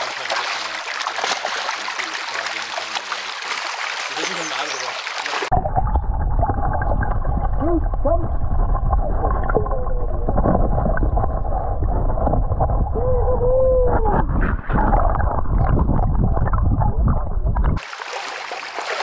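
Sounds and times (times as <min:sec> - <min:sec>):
running water: 0:00.0 - 0:14.1, 0:14.7 - 0:19.0.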